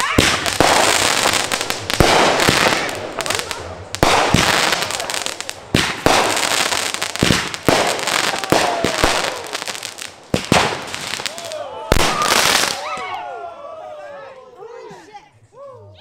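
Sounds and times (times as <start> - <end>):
fireworks bangs: 0.0 - 13.2
fireworks crackling: 0.0 - 13.2.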